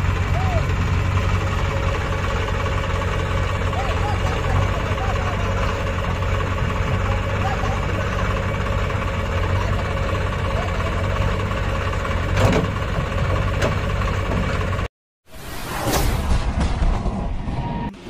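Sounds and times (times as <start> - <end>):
diesel tractor engine running: 0.0 - 14.9.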